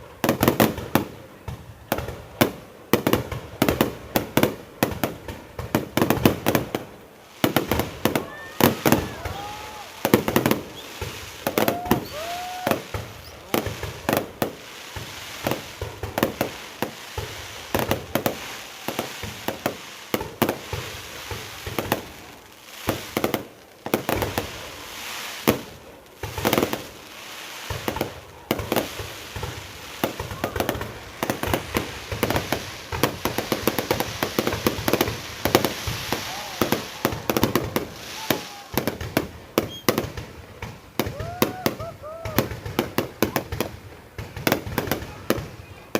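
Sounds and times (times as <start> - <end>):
fireworks banging: 0.0 - 45.9.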